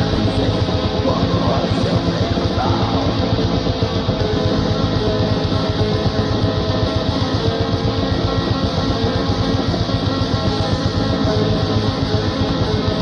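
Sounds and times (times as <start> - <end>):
distorted electric guitars: 0.0 - 13.0
fast drumming: 0.0 - 13.0.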